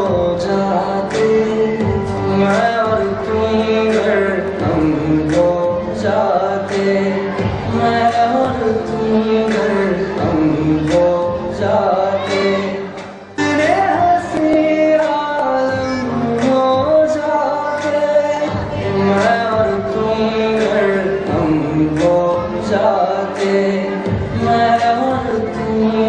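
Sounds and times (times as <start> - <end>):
song with singing and instruments: 0.0 - 26.0.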